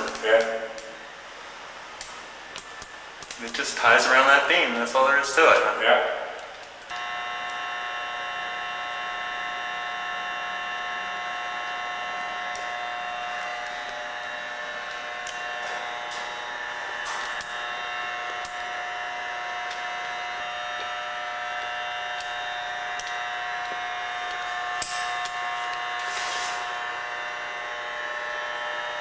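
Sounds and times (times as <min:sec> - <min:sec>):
electrical hum with whining tones: 0:00.0 - 0:29.0.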